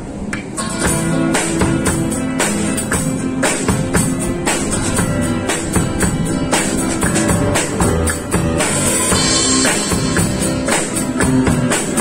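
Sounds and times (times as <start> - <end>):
recorded backing track: 0.1 - 12.0
drum kit rock beat: 0.4 - 12.0.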